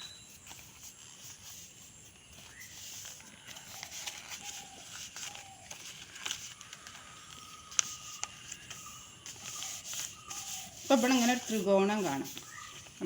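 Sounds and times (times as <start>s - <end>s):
paper rustling and creasing: 0.0s - 13.0s.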